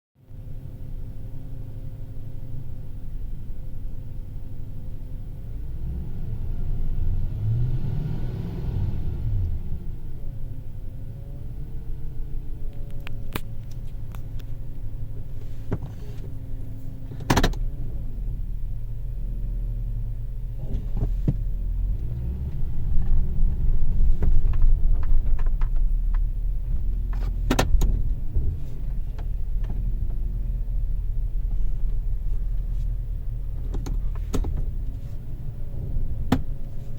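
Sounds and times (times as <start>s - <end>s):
road rumble: 0.2s - 36.9s
vehicle whine: 0.2s - 36.9s.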